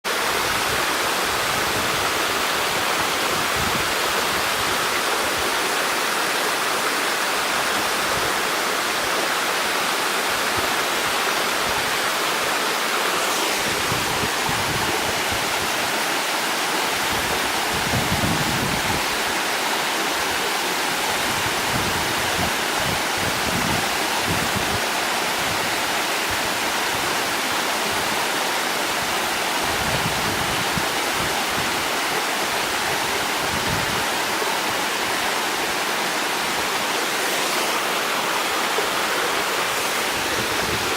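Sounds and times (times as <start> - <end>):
waterfall pouring: 0.1 - 40.9.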